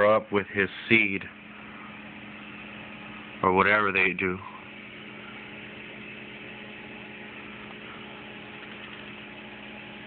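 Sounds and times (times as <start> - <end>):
air pump humming: 0.0 - 10.0.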